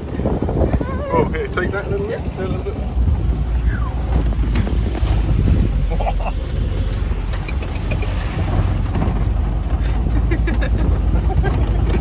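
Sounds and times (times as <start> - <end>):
engine rumbling on dirt track: 0.0 - 12.0.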